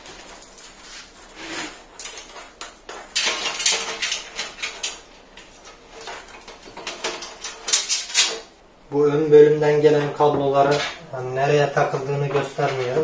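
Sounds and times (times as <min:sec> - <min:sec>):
cables rustling and scraping: 0:00.0 - 0:13.0.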